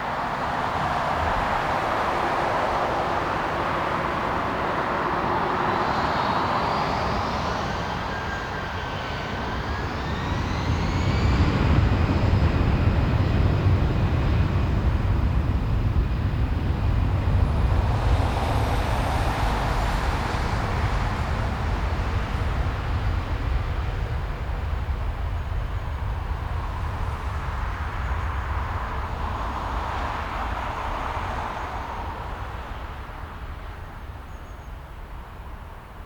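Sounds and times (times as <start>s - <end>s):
jet airliner taking off: 0.0s - 35.7s.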